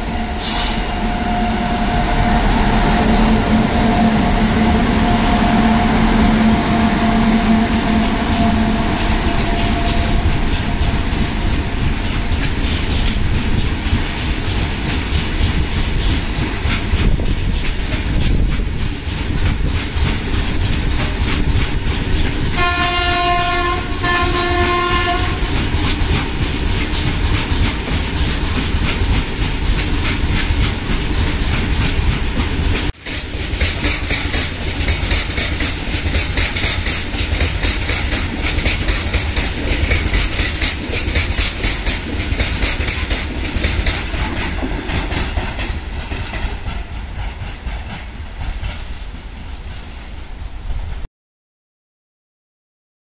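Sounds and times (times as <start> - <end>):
train wheels clickety-clack: 2.6 - 51.0.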